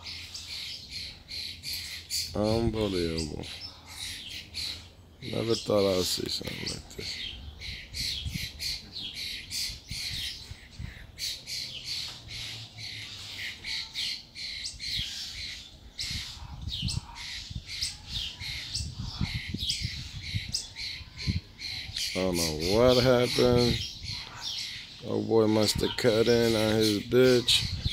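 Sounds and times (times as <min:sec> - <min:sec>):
birds squawking: 0:00.0 - 0:27.9.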